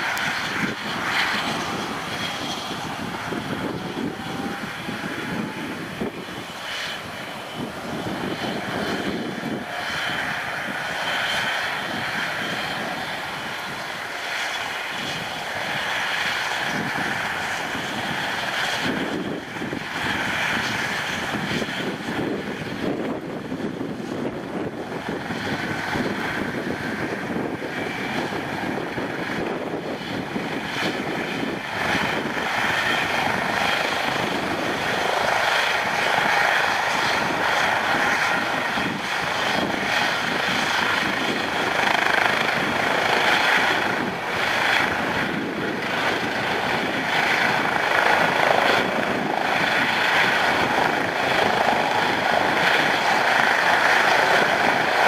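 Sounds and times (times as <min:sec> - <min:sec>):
helicopter rotor noise: 0:00.0 - 0:55.0
helicopter turbine whine: 0:00.0 - 0:55.0.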